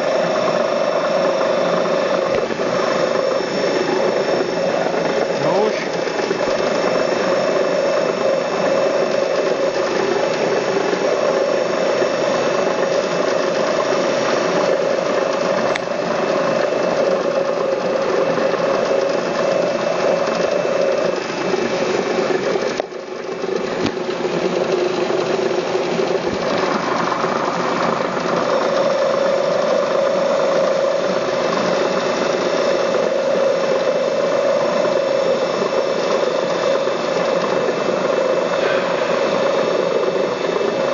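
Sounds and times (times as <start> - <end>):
grinding machine running: 0.0 - 40.9.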